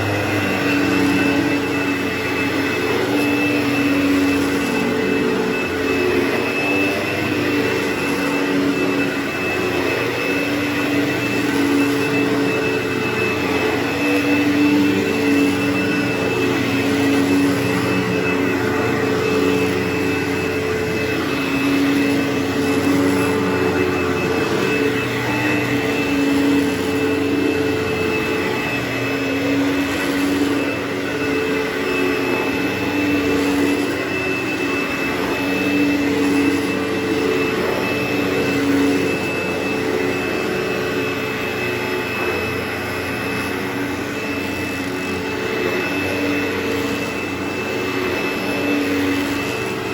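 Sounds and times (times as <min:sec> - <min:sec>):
vacuum cleaner on carpet: 0:00.0 - 0:49.9.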